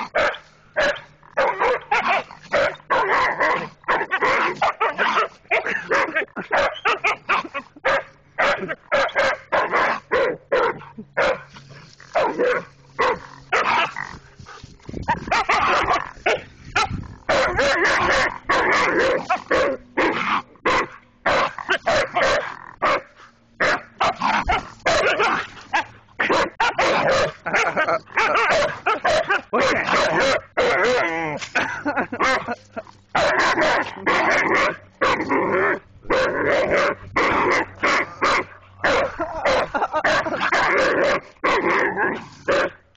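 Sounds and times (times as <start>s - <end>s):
dogs barking and yipping: 0.0s - 42.8s.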